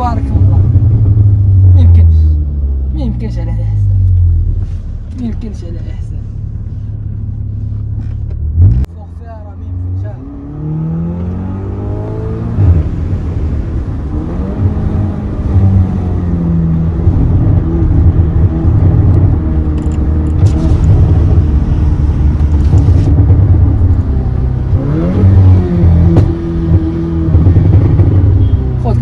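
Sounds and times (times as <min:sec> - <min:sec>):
car engine rumbling: 0:00.0 - 0:29.0.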